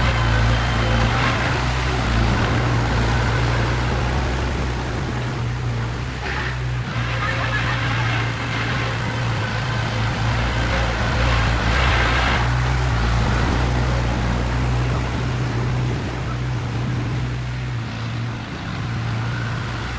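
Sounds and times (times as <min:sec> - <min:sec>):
heavy vehicle engine droning: 0:00.0 - 0:19.9.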